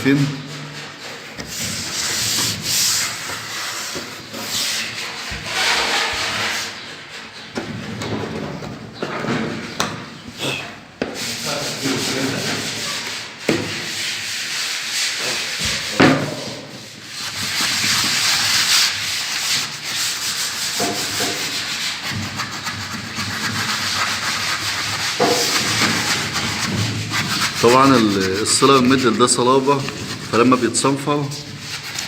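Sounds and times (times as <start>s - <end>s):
sandpaper rasping on wood: 0.8s - 7.4s, 11.2s - 32.0s.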